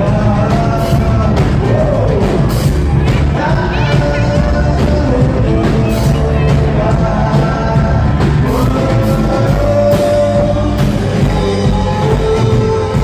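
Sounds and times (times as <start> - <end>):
live rock band playing: 0.0 - 13.0
steady drum beat: 0.0 - 13.0.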